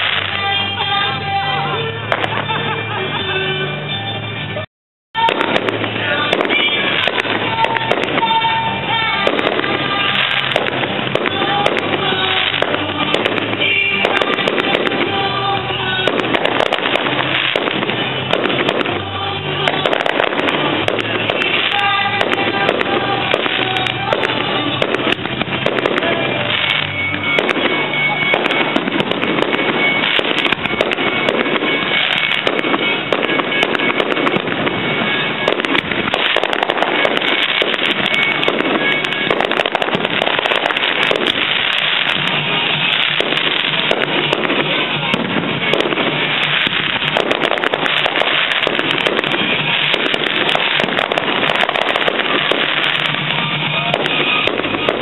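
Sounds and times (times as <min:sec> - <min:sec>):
fireworks bangs and crackling: 0:00.0 - 0:55.0
music playing: 0:00.0 - 0:55.0.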